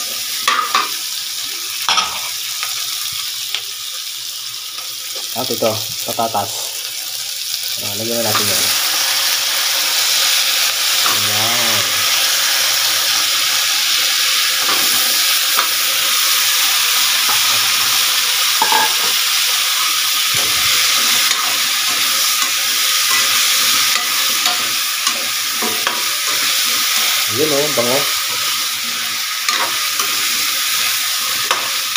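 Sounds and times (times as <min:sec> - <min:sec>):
vegetables sizzling in hot oil: 0:00.0 - 0:31.9.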